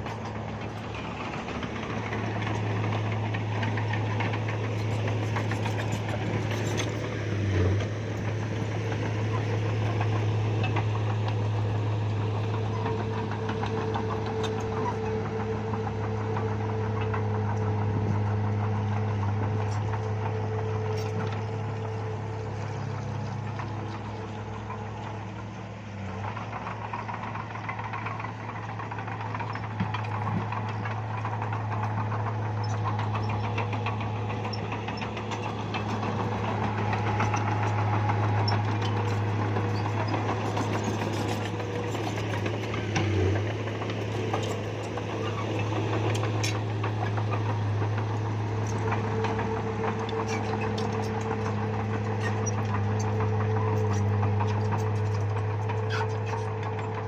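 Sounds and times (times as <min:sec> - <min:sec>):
bulldozer diesel engine running: 0:00.0 - 0:57.0
light clicks and clanks: 0:00.0 - 0:57.0.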